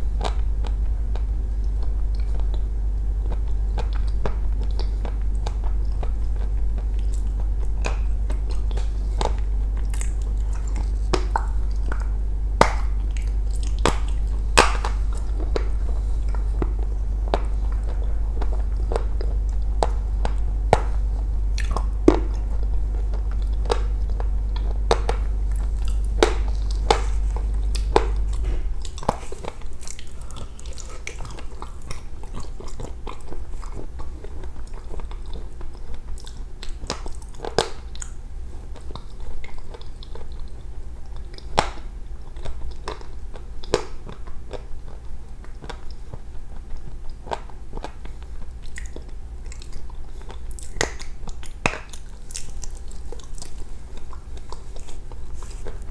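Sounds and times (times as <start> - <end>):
low hum: 0.0 - 55.9
person biting and chewing chalk: 0.0 - 55.9.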